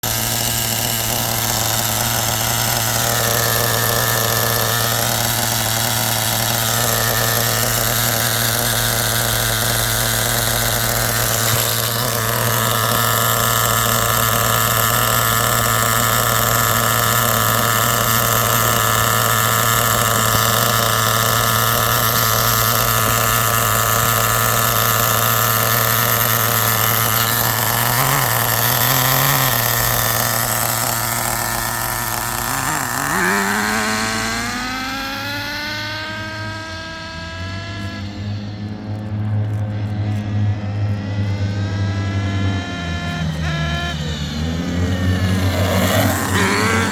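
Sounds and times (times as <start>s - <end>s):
rc car nitro engine running: 0.0s - 46.9s.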